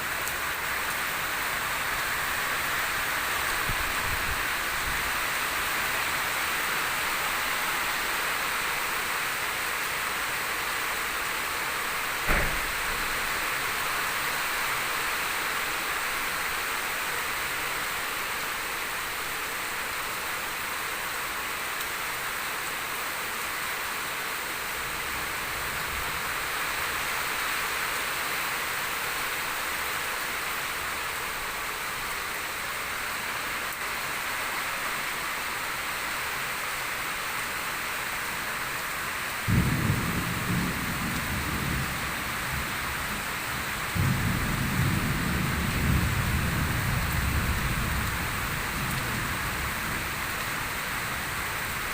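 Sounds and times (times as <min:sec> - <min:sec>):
heavy rain hiss: 0:00.0 - 0:51.9.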